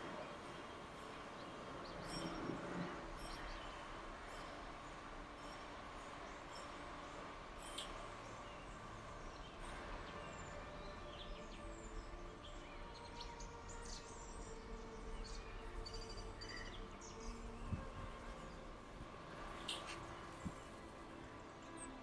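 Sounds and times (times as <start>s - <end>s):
faint background noise: 0.0s - 22.0s.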